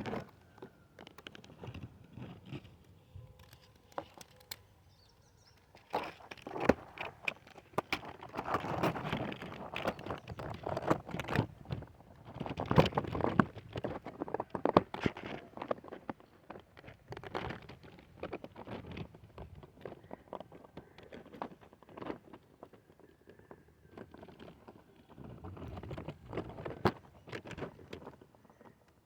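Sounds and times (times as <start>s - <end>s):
rustling and crackling: 0.0s - 29.0s.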